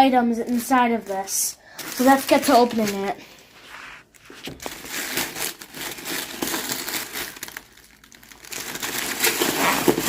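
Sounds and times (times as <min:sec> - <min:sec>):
packaging crinkling: 0:01.7 - 0:10.0.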